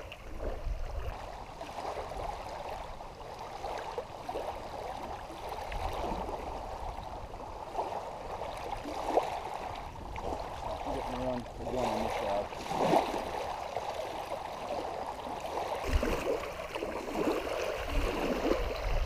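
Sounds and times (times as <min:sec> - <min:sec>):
small waves lapping on rocks: 0:00.0 - 0:19.0.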